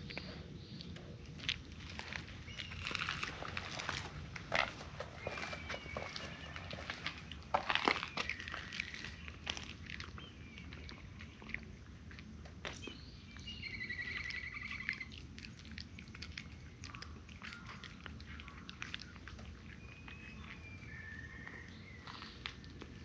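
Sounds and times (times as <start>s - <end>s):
cats crunching dry kibble: 0.0s - 23.0s.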